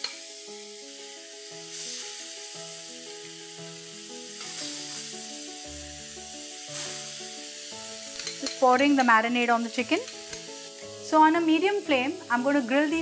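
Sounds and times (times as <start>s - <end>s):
background music: 0.0s - 13.0s
chicken sizzling on grill pan: 0.0s - 13.0s.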